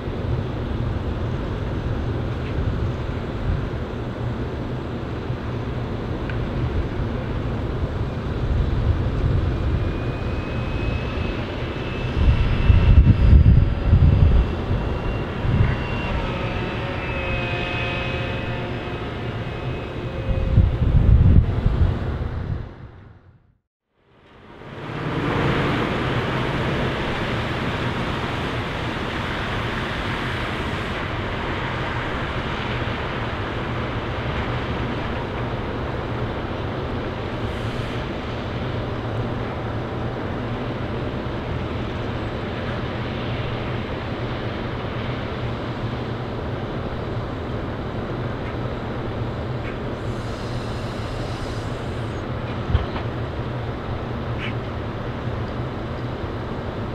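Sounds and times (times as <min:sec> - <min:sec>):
rushing noise: 0:00.0 - 0:56.9.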